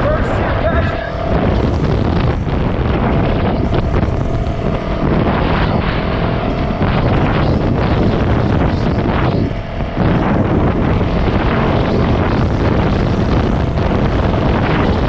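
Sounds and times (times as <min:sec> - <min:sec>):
dirt bike engine running: 0:00.0 - 0:15.0
wind buffeting microphone: 0:00.0 - 0:15.0.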